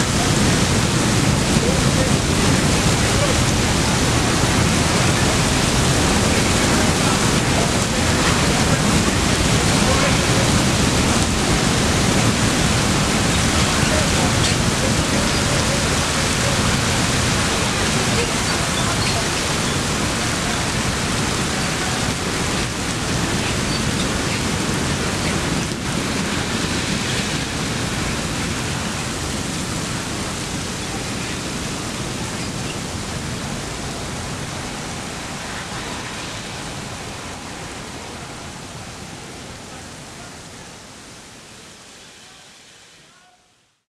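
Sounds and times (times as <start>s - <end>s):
hose water spraying: 0.0s - 37.9s.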